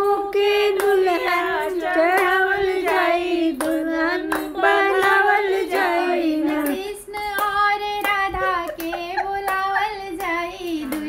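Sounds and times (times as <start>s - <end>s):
hand claps: 0.0s - 11.0s.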